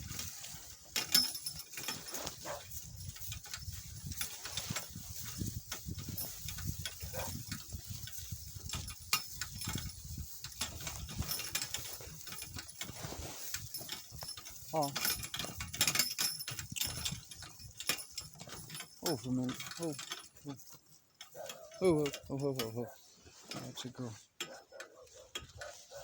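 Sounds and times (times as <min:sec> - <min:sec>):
cart knocking and rattling: 0:00.0 - 0:26.0
donkey hooves: 0:00.0 - 0:26.0.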